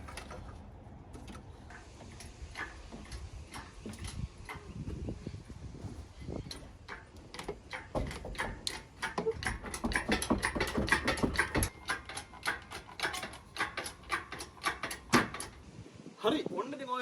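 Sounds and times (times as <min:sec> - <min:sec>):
metal clicks and light knocks: 0:00.0 - 0:05.4, 0:06.2 - 0:15.7.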